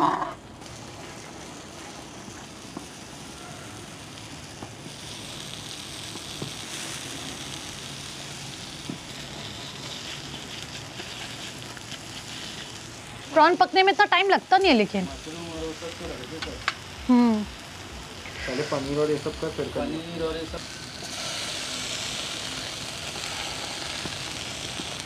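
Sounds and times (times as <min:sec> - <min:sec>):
food sizzling on a grill plate: 0:00.6 - 0:25.0.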